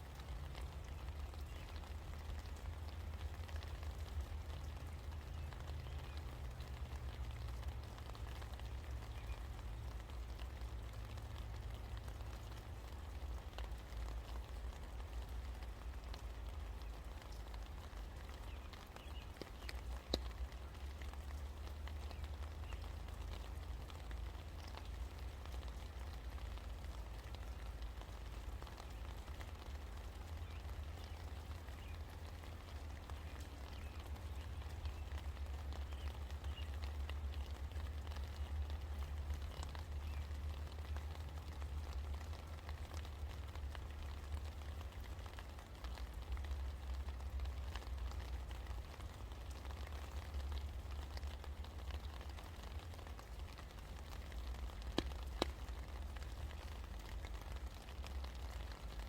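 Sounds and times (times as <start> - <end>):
drips ticking: 0.0 - 59.0
low steady rumble: 0.0 - 59.0
steady rain falling: 0.0 - 59.0.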